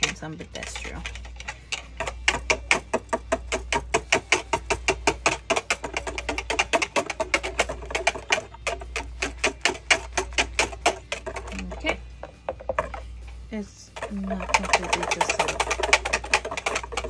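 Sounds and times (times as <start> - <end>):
whisk clicking against bowl: 0.0 - 13.1, 14.0 - 17.0.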